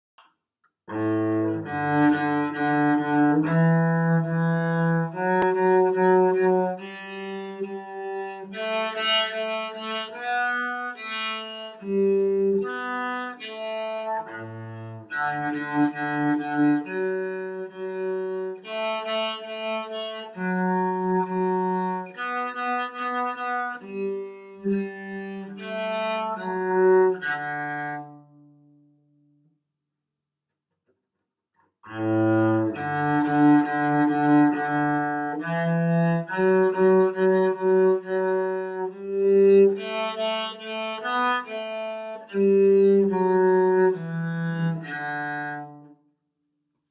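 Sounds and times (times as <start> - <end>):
bowed cello melody: 0.9 - 28.9, 31.9 - 46.0.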